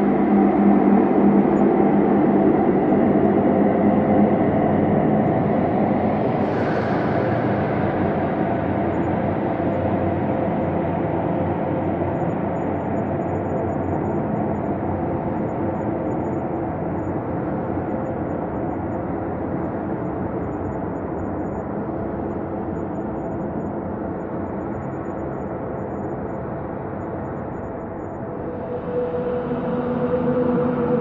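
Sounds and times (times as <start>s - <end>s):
ambient drone hum: 0.0s - 31.0s.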